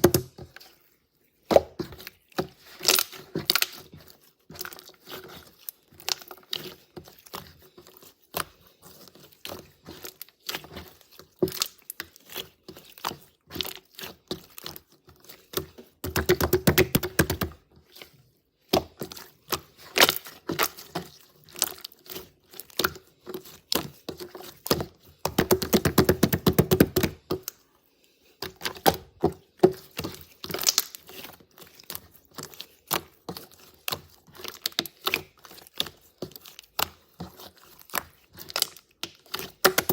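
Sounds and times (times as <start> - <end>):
slime squishing with clicking pops: 0.0 - 0.6, 1.5 - 3.9, 5.9 - 7.1, 9.5 - 12.2, 12.8 - 17.6, 18.7 - 27.6, 28.4 - 39.9.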